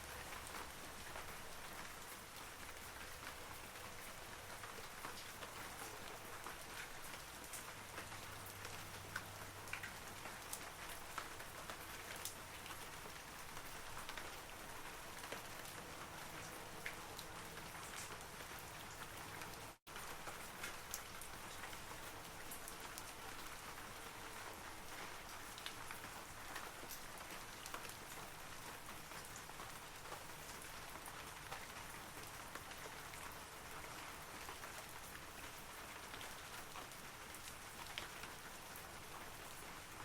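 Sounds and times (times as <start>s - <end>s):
rain on trees: 0.0s - 40.0s.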